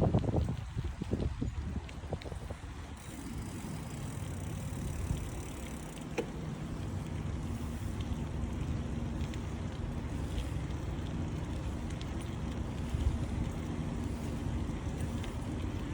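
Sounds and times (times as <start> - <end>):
wind and road noise: 0.0 - 15.9.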